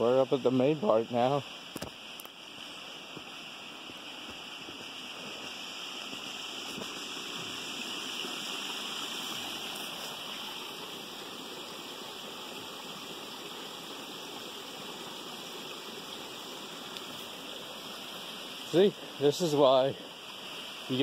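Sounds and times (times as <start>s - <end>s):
waterfall rushing: 2.6s - 21.0s.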